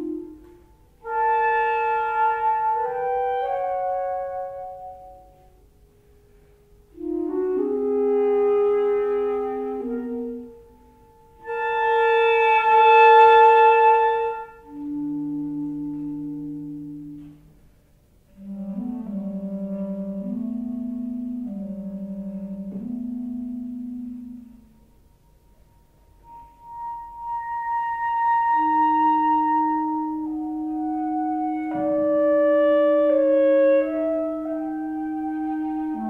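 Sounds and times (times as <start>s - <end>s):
clarinets playing held notes: 0.0s - 5.7s, 6.3s - 17.6s, 18.2s - 36.0s.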